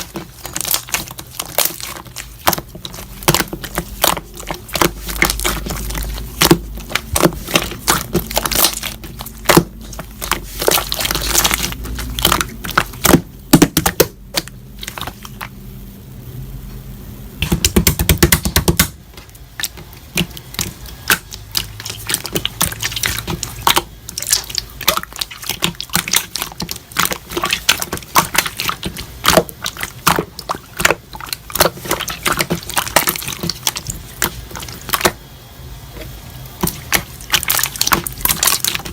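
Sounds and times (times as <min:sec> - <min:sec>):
slime squished by hand: 0:00.0 - 0:15.5, 0:17.4 - 0:35.2, 0:36.0 - 0:38.9
rapid wet crackling: 0:00.0 - 0:15.8, 0:17.4 - 0:38.9.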